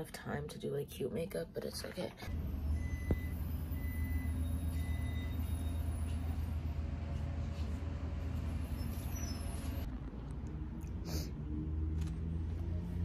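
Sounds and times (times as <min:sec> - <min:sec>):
low room rumble and hum: 0:00.0 - 0:13.0.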